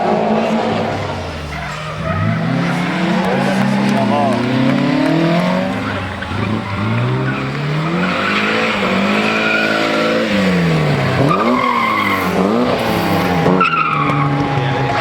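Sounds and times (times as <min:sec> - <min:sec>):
rally car engine revving: 0:00.0 - 0:15.0
tyres squealing: 0:01.0 - 0:15.0.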